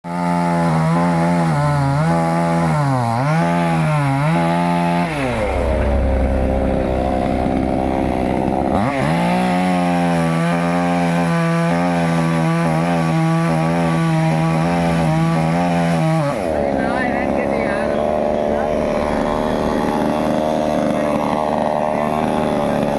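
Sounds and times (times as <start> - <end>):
chainsaw cutting wood: 0.1 - 22.9.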